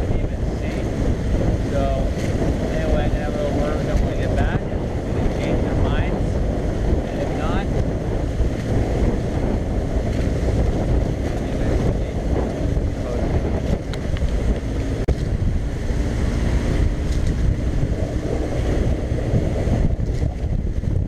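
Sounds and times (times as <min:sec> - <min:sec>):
boat motor drone: 0:00.0 - 0:21.0
wind buffeting microphone: 0:00.0 - 0:21.0.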